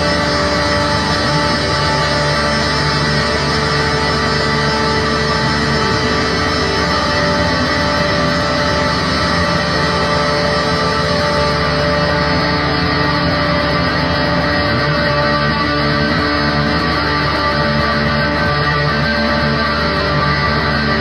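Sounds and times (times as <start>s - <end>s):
electric guitar and keyboard music: 0.0s - 21.0s.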